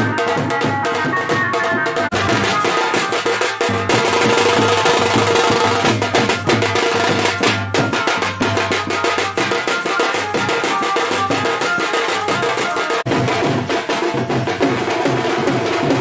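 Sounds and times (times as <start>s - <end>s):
fast dhol drumming: 0.0s - 16.0s.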